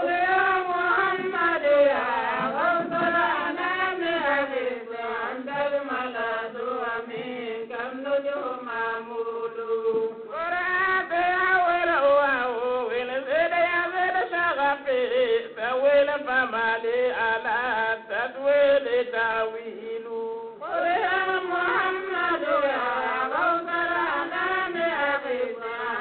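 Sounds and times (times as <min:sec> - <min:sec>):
person chanting devotional poem: 0:00.0 - 0:26.0.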